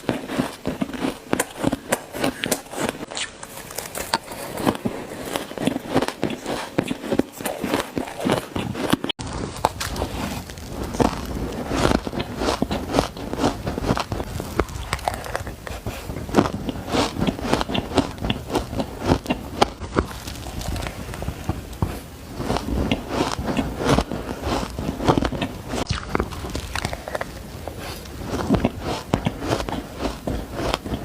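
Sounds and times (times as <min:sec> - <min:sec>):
shaved ice being chewed: 0:00.0 - 0:31.0.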